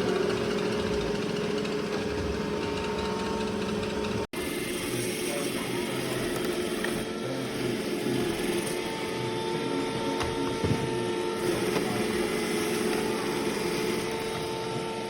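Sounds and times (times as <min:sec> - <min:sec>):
robot vacuum running: 0:00.0 - 0:15.0.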